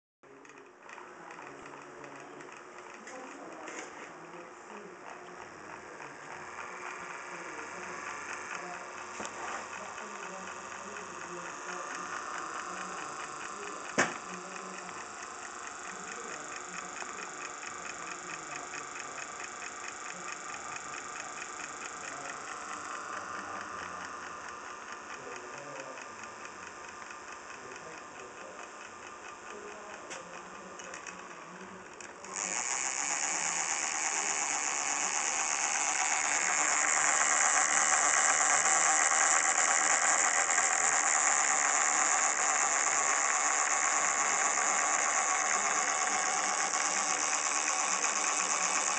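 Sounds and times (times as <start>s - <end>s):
model machine mechanical clicking: 0.3s - 48.9s.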